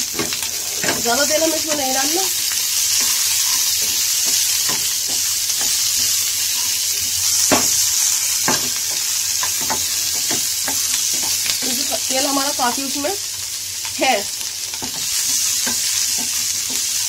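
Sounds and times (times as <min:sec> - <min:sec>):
capsicum sizzling in oil: 0:00.0 - 0:17.0.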